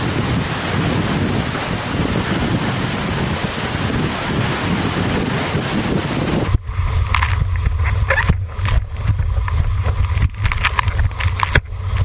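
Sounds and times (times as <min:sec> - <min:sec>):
board slapping water: 0:00.0 - 0:12.0
muffled wind and water rumble: 0:00.0 - 0:12.0
wind hiss on microphone: 0:00.0 - 0:12.0.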